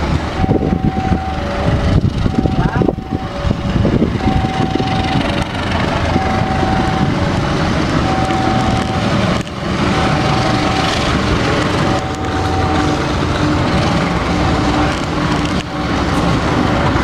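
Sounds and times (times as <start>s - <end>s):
diesel locomotive engine rumbling: 0.0s - 17.0s
level crossing two-tone alarm: 0.4s - 16.4s.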